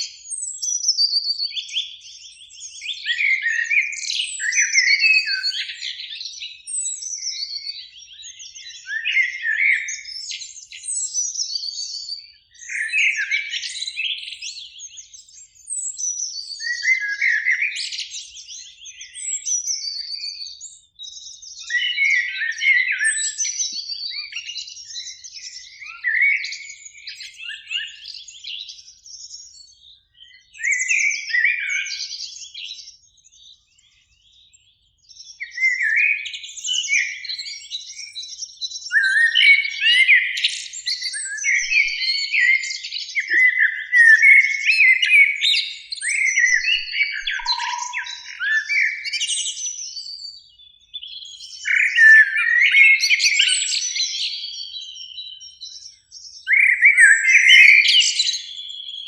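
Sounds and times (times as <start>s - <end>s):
blackbirds singing: 0.0s - 59.0s.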